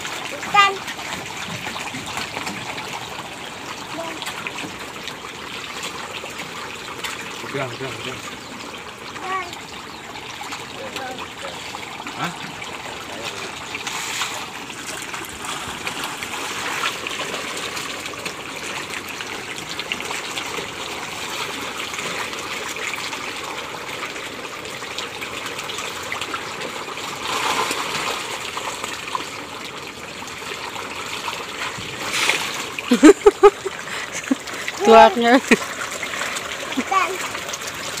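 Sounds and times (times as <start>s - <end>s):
fish thrashing and splashing water: 0.0s - 38.0s.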